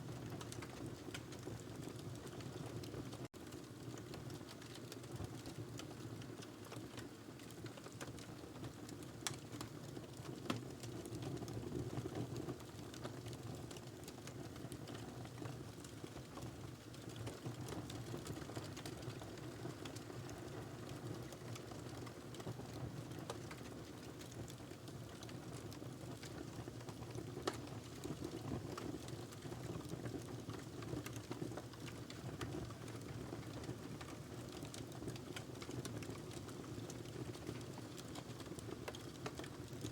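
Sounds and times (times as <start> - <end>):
fire crackling and popping: 0.1 - 39.9
wood fire burning: 3.5 - 39.9.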